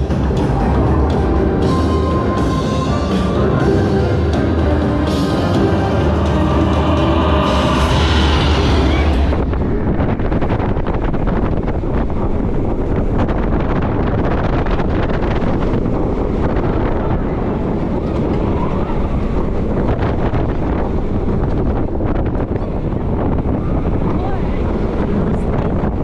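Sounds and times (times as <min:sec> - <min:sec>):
wind rushing over microphone: 0:00.0 - 0:26.0
roller coaster wheels rattling on track: 0:05.0 - 0:26.0.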